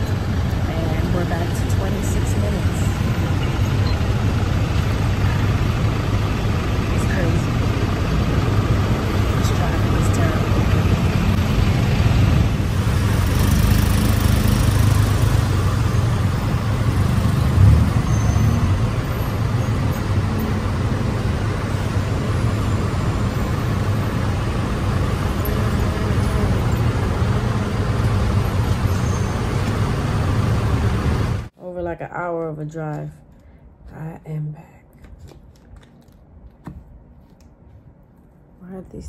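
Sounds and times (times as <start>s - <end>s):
road traffic noise: 0.0s - 31.6s
engine low rumble: 0.0s - 35.2s.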